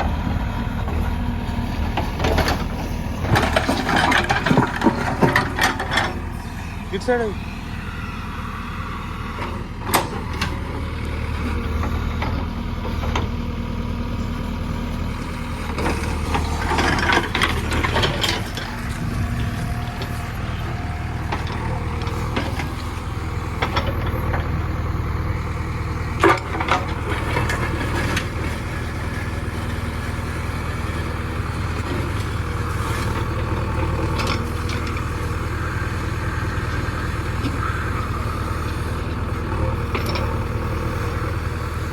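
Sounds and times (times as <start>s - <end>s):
earthmoving machine diesel engine: 0.0s - 41.9s.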